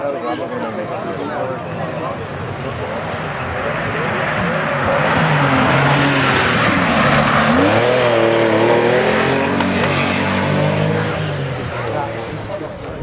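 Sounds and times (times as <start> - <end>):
rally car engine revving: 2.2 - 13.0.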